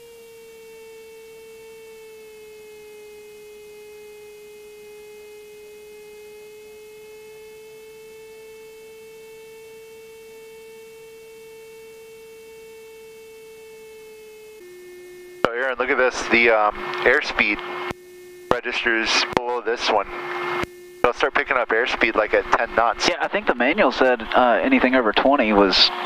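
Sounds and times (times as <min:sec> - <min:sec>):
electrical whine in intercom: 0:00.0 - 0:26.0.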